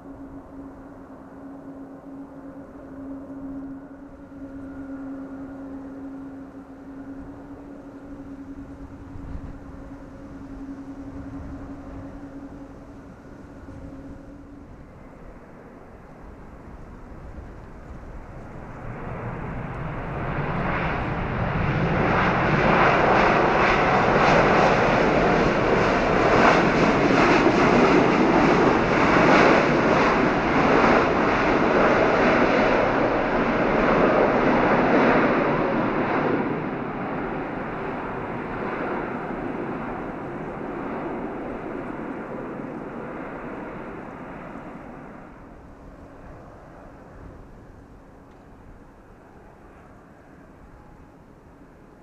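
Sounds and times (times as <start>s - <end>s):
jet engines passing: 0.0s - 52.0s.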